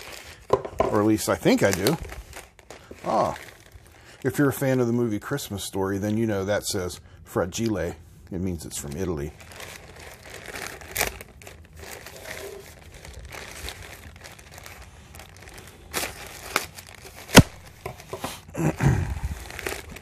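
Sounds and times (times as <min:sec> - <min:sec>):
plastic bag crinkling and tearing: 0:00.0 - 0:06.5, 0:07.6 - 0:20.0.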